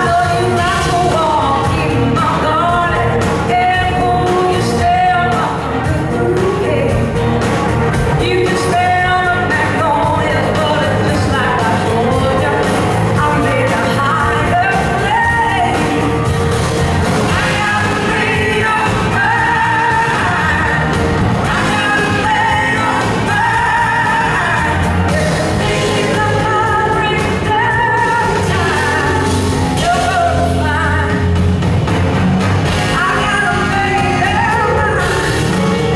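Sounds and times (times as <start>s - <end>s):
woman singing: 0.0s - 7.3s, 8.2s - 16.4s, 17.2s - 31.4s, 32.7s - 35.9s
live blues-rock band: 0.0s - 35.9s.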